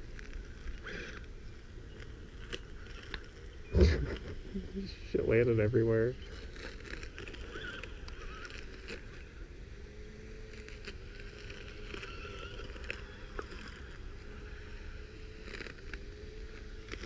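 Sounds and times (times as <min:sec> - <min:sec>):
small electric motor whine: 0:00.0 - 0:17.0.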